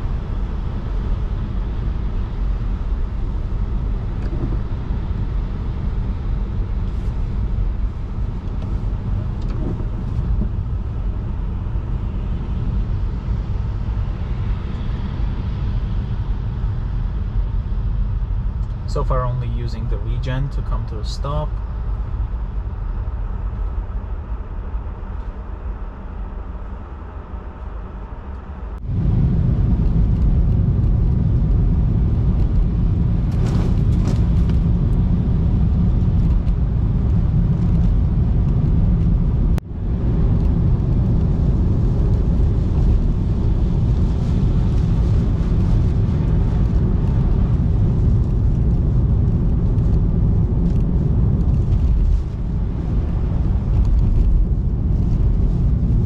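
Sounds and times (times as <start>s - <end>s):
tyre and wind noise: 0.0s - 19.0s, 21.6s - 56.0s.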